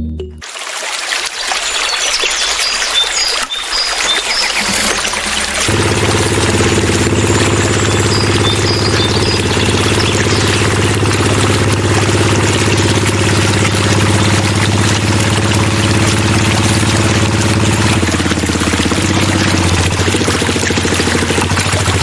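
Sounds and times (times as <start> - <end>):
small engine pulsing: 2.5 - 22.0.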